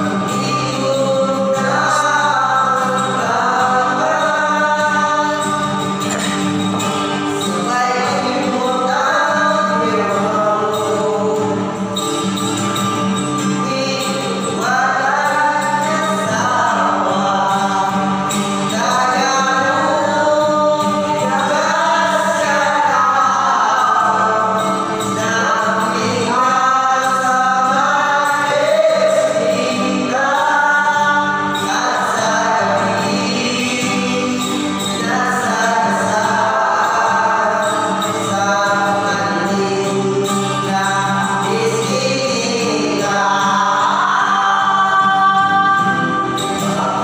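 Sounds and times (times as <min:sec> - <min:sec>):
young men singing together: 0:00.0 - 0:12.0, 0:13.4 - 0:47.0
strummed acoustic guitar: 0:00.0 - 0:47.0.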